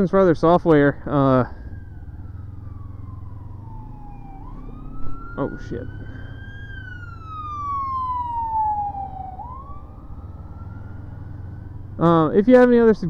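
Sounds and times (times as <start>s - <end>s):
motorcycle engine rumble: 0.0s - 13.0s
wind: 0.0s - 13.0s
emergency siren wailing: 0.5s - 12.8s.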